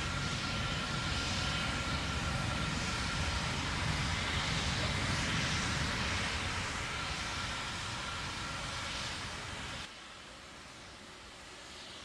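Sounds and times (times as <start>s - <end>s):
distant rocket engine roar: 0.0s - 9.9s.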